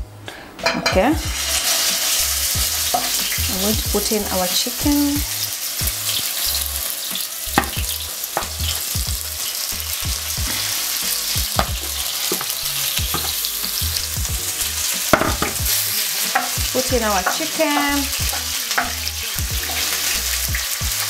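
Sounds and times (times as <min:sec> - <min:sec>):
chicken sizzling in hot oil: 0:00.6 - 0:21.0.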